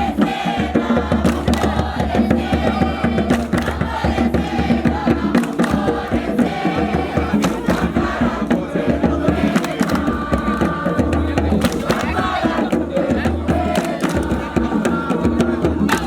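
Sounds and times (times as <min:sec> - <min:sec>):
group chanting: 0:00.0 - 0:16.0
percussion beat: 0:00.0 - 0:16.0.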